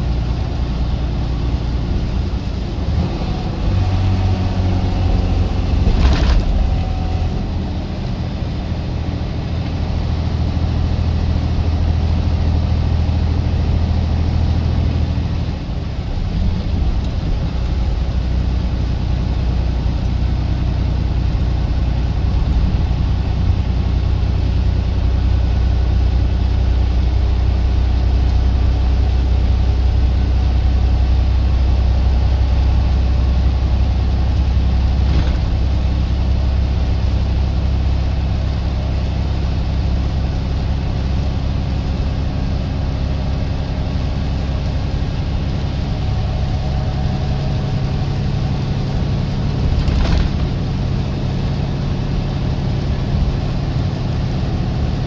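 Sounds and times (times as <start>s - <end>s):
road noise: 0.0s - 55.0s
truck engine rumbling: 0.0s - 55.0s.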